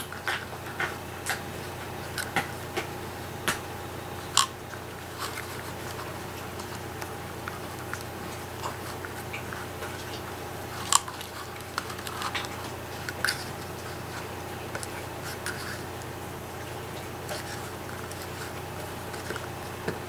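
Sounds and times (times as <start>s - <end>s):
paper crinkling and clicking: 0.0s - 20.0s
steady low hum: 0.0s - 20.0s.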